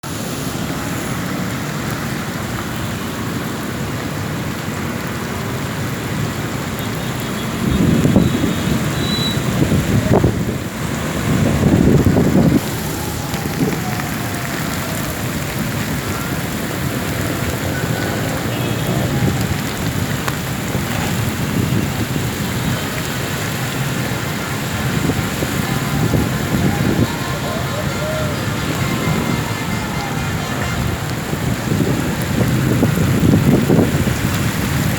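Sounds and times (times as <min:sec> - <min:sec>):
heavy rain falling: 0:00.0 - 0:34.9
road traffic: 0:00.0 - 0:34.9.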